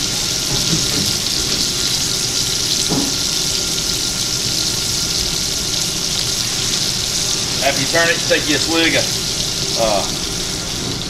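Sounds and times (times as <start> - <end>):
steak sizzling in fat: 0.0 - 11.0.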